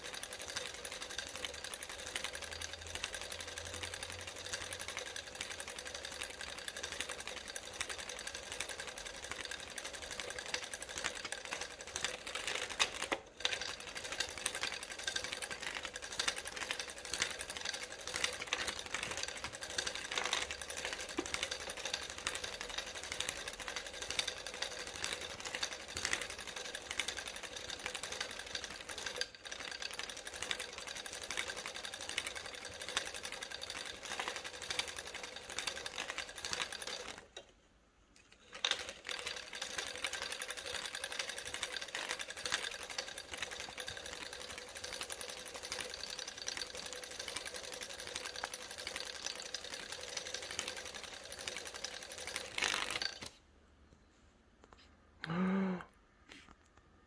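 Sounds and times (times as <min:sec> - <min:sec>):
fast mechanical clicking: 0:00.0 - 0:37.5, 0:38.3 - 0:53.4.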